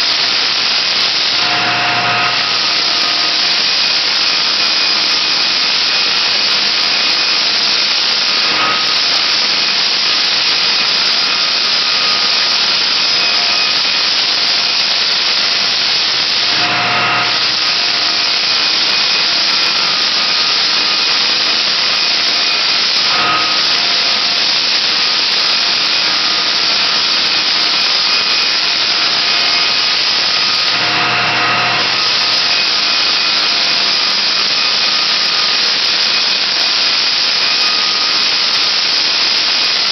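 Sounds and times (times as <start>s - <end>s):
floor sander sanding: 0.0s - 39.9s.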